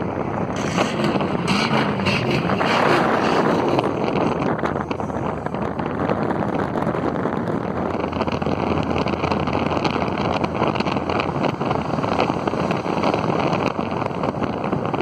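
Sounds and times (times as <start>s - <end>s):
car road noise: 0.0s - 15.0s
wind on microphone: 0.0s - 15.0s.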